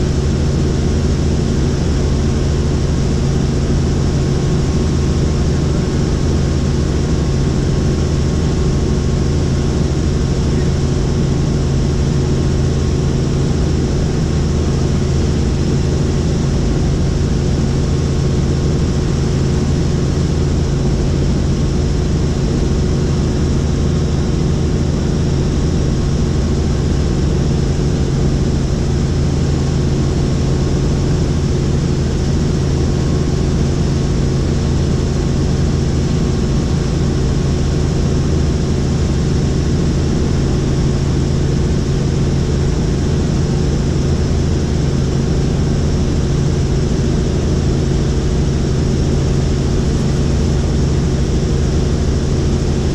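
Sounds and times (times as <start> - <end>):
helicopter drone: 0.0 - 52.9.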